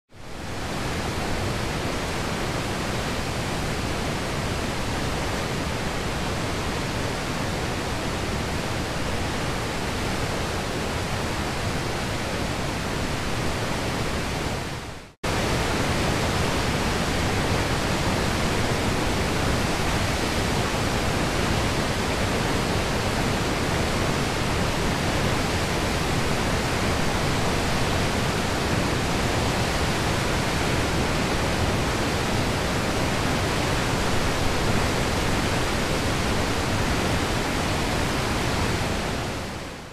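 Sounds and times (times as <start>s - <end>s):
waterfall rushing: 0.2s - 39.9s.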